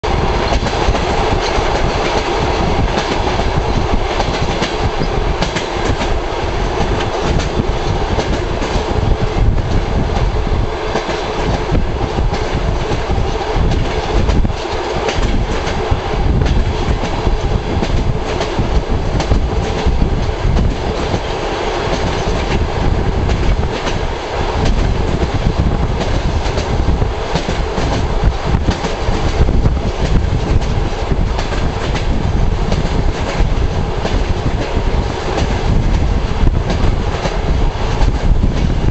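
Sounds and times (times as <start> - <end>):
train rumble: 0.0 - 38.9
train wheels clicking over rail joints: 0.1 - 38.9.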